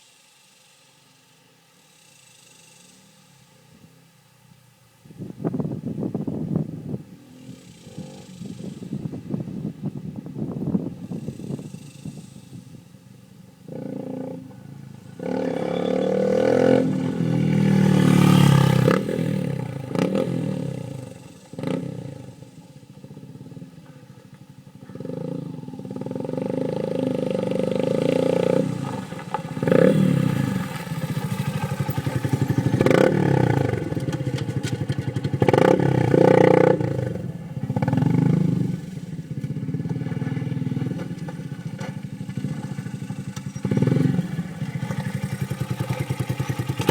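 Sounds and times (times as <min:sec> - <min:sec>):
motorcycle engine revving: 0:01.9 - 0:46.9.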